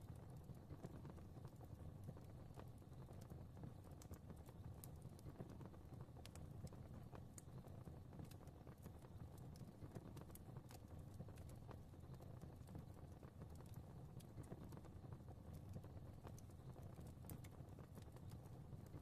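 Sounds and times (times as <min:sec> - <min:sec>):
fire crackling and popping: 0:00.0 - 0:19.0
low rumble of flame: 0:00.0 - 0:19.0.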